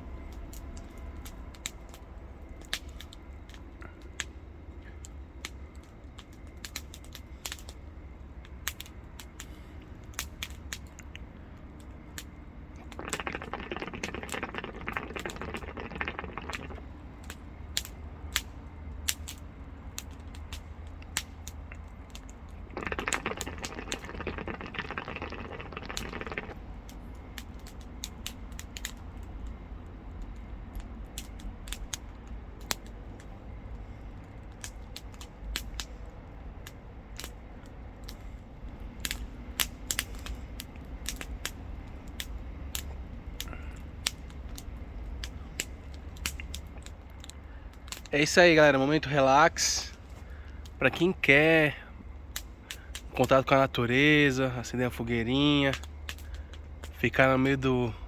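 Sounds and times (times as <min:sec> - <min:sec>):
campfire wood crackling: 0:00.0 - 0:58.0.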